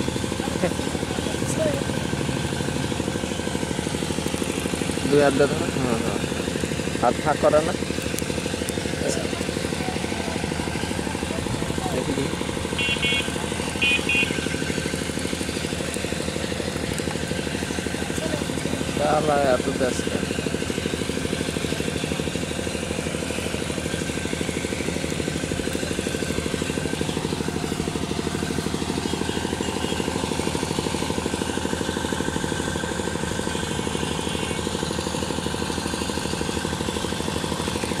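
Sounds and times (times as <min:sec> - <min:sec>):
small engine running: 0:00.0 - 0:38.0.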